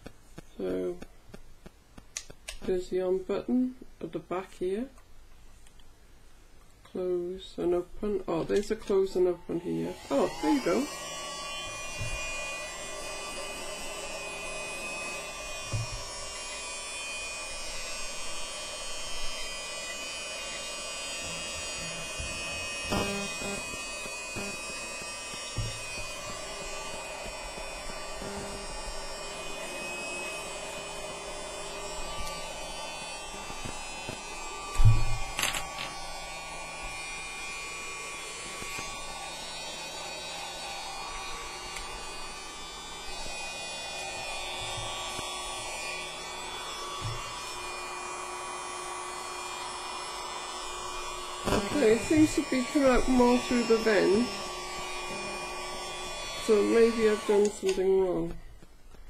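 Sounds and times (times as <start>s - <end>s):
handheld vacuum whine: 0.0s - 2.7s, 8.1s - 59.0s.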